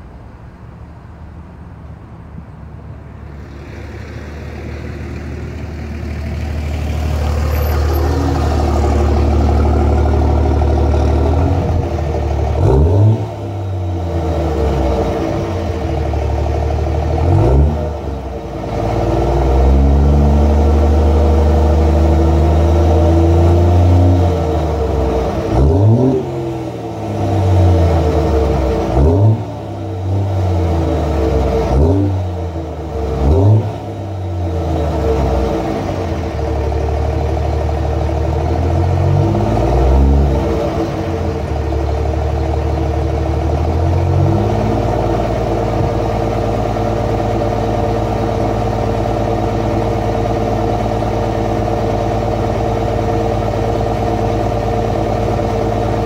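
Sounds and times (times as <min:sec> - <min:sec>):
diesel engine revving: 0:03.2 - 0:56.0.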